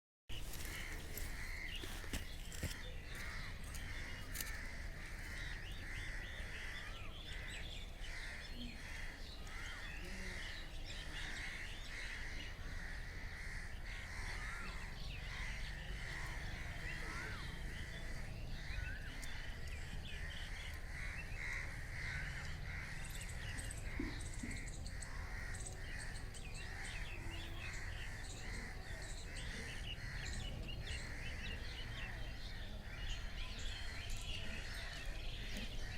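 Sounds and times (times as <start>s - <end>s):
birds calling and chirping: 0.3s - 35.9s.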